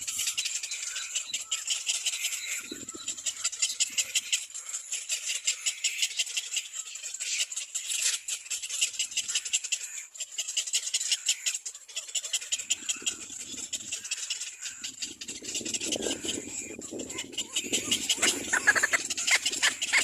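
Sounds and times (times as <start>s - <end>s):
cormorant chicks calling: 0.0s - 20.0s.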